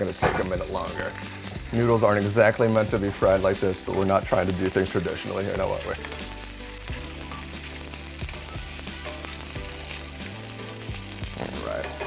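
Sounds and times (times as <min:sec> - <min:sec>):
background music low notes: 0:00.0 - 0:12.0
noodles sizzling in oil: 0:00.0 - 0:12.0.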